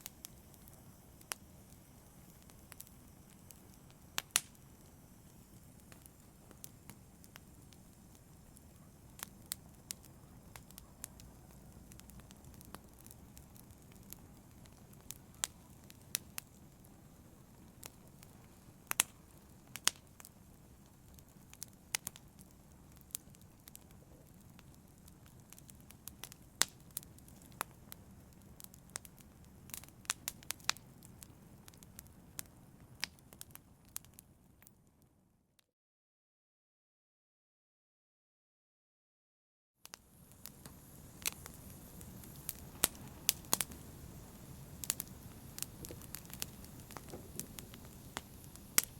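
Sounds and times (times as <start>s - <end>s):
sharp pops from fire: 0.0s - 34.7s, 39.8s - 48.9s
wood fire crackling: 0.0s - 34.7s, 39.8s - 48.9s.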